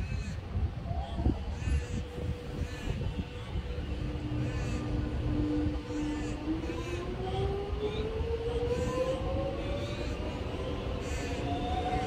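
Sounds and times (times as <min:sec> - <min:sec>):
train running rumble: 0:01.4 - 0:12.0
electric train motor whine: 0:02.0 - 0:12.0.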